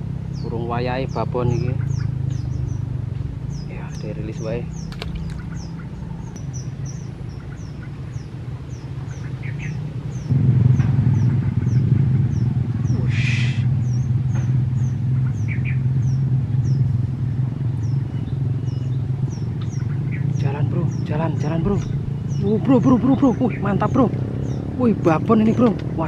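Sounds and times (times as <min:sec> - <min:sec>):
low hum: 0:00.0 - 0:25.9
bird chirping: 0:00.0 - 0:26.0.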